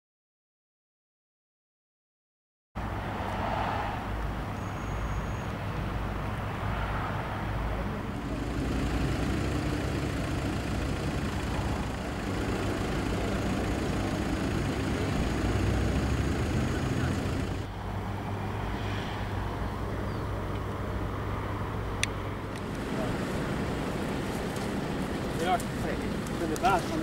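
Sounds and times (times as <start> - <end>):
road traffic: 2.8 - 27.0
vehicle engines idling: 4.2 - 27.0.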